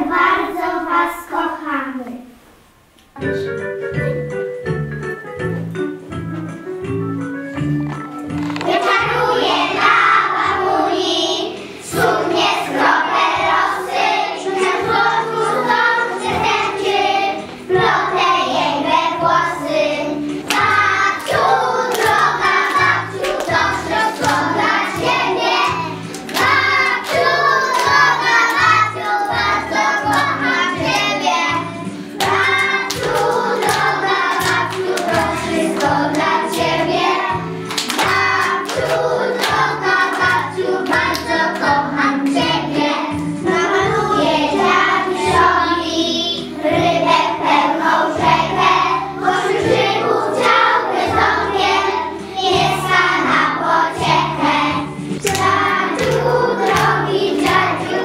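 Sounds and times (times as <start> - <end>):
instrumental backing music: 3.0 - 58.0
children singing: 8.5 - 58.0.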